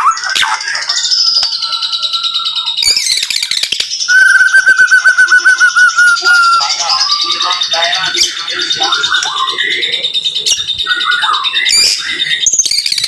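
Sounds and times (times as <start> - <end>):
bird singing fast trills: 0.0 - 13.0.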